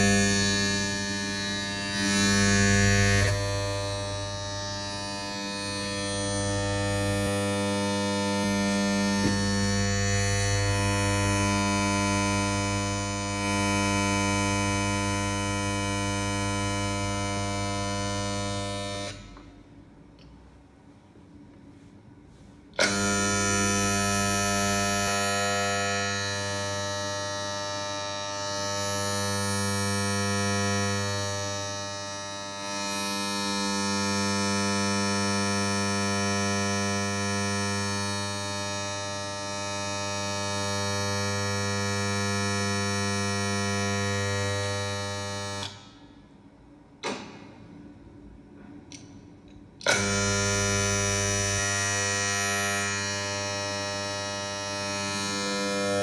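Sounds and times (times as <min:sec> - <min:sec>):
electronic buzzing drone: 0:00.0 - 0:19.5, 0:22.8 - 0:46.0, 0:49.8 - 0:56.0.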